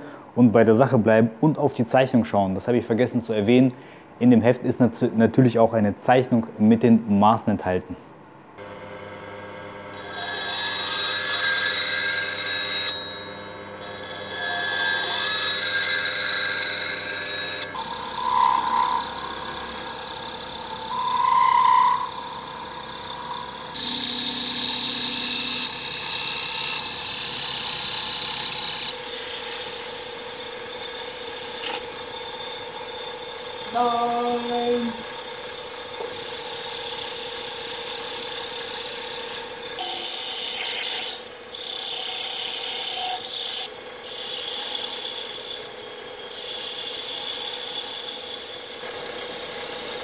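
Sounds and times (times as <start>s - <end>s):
lathe motor whine: 8.6s - 50.0s
tool cutting spinning wood: 8.6s - 50.0s.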